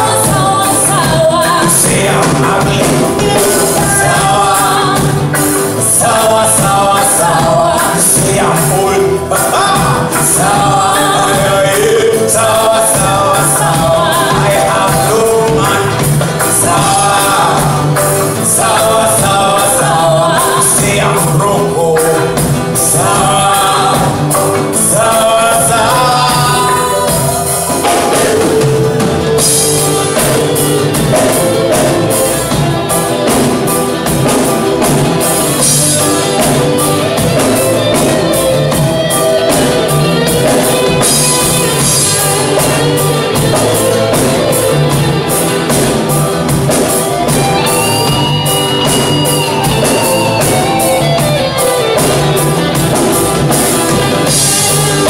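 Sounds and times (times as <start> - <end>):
live band playing: 0.0 - 55.0
person singing: 0.0 - 55.0.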